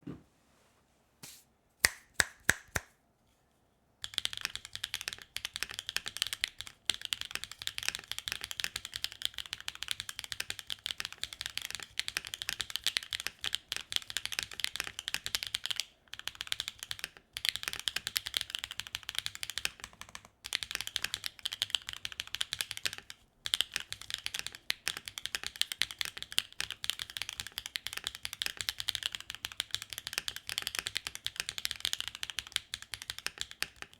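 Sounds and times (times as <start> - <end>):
mechanical keyboard typing: 4.0 - 33.9.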